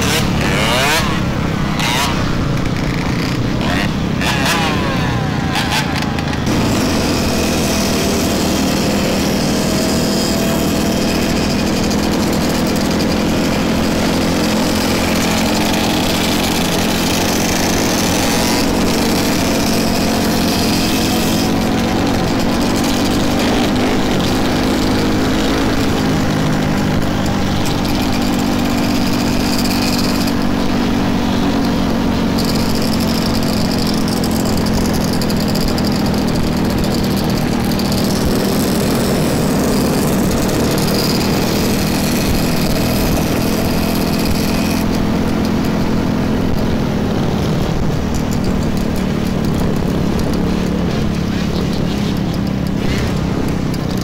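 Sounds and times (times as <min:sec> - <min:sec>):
dirt bike engine running: 0:00.0 - 0:54.0
wind and road noise: 0:00.0 - 0:54.0.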